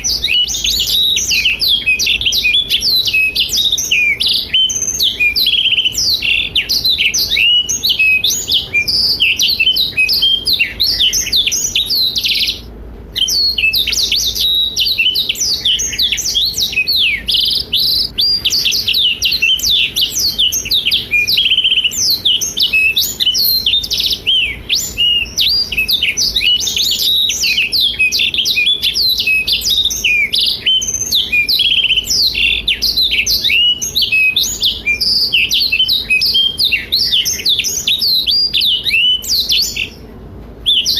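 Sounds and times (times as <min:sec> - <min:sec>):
bird singing trills: 0:00.0 - 0:40.9.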